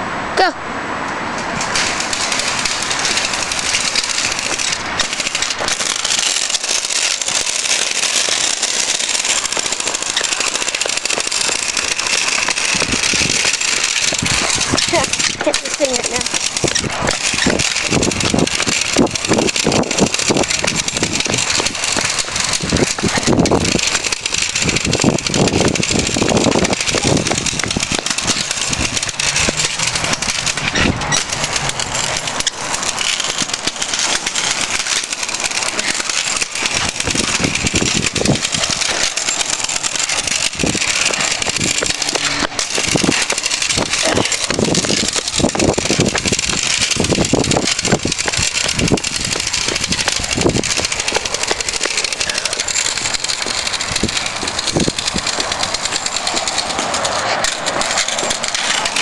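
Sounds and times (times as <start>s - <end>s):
scooter wheels rolling on pavement: 0.0s - 59.0s
wind buffeting microphone: 1.2s - 59.0s.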